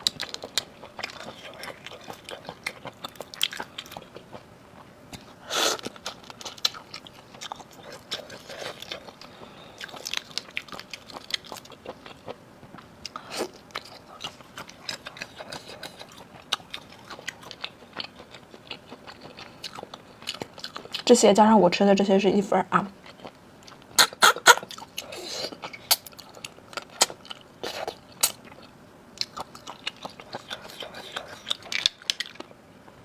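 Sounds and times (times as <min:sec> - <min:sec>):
wet chewing and biting: 0:00.0 - 0:21.1, 0:23.0 - 0:32.6.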